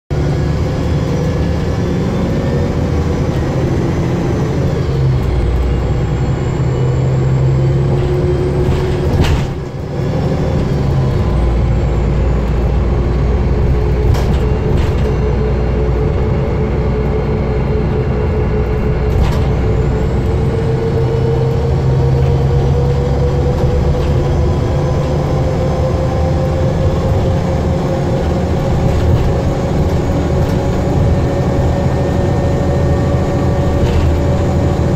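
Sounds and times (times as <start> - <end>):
bus engine running: 0.1 - 34.9
rising whine: 0.1 - 34.9.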